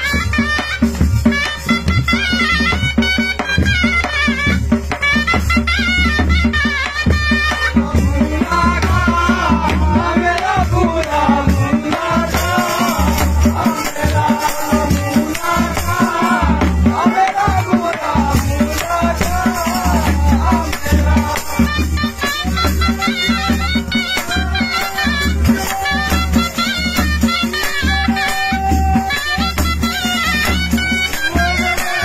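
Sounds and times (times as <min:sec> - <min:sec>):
dhol drum beating: 0:00.0 - 0:32.0.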